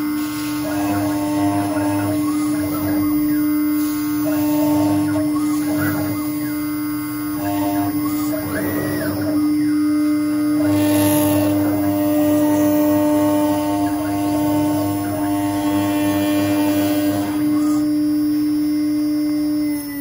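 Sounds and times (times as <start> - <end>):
router spindle humming: 0.0 - 20.0
stepped motor tones: 0.0 - 20.0.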